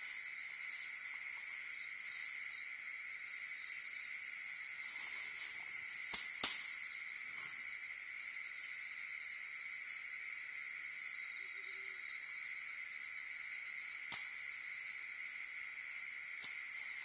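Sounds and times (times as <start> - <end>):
crickets and insects chorus: 0.0 - 17.0.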